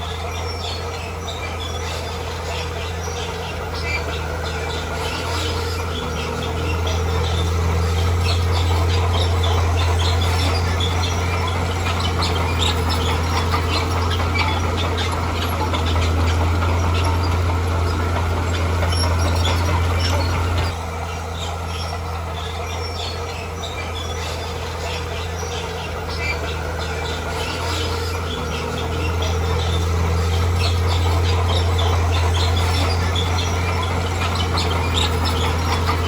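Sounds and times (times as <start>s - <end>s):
bulldozer engine drone: 0.0s - 36.0s
crawler tracks squeaking and clicking: 0.0s - 36.0s.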